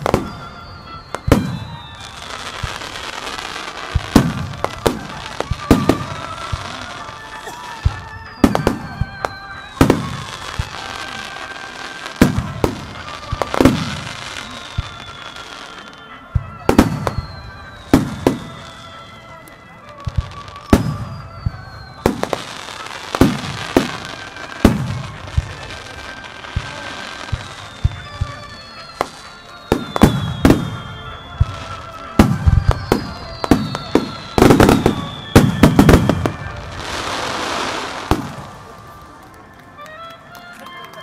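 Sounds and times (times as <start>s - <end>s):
fireworks hiss: 0.0s - 39.3s
fireworks bangs echoing: 0.0s - 40.0s
faint music with held notes: 0.0s - 41.0s.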